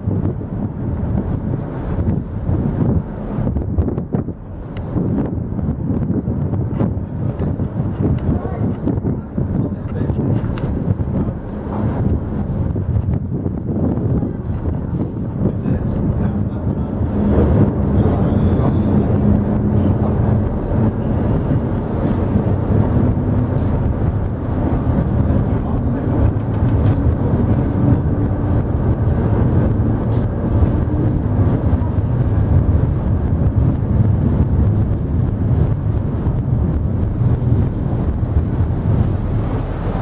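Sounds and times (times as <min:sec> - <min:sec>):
diesel engines rumbling: 0:00.0 - 0:40.0
water churning past hull: 0:00.0 - 0:40.0
wind buffeting microphone: 0:00.0 - 0:40.0.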